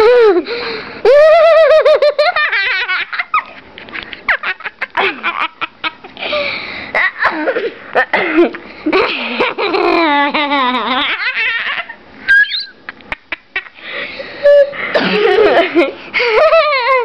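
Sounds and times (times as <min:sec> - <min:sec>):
girl laughing while tickled: 0:00.0 - 0:17.0.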